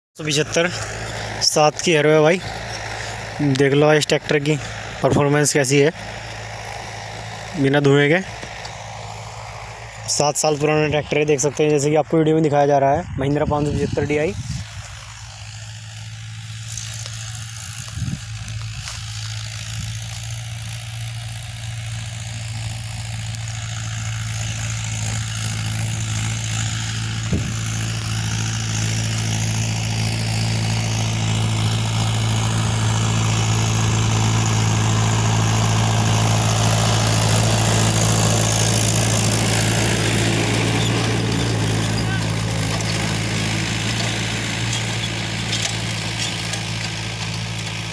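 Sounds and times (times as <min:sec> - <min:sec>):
tractor diesel engine under load: 0:00.2 - 0:47.9.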